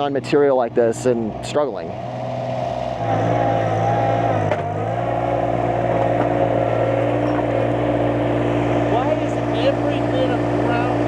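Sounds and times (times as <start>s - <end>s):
skid steer engine running: 0.0s - 11.0s.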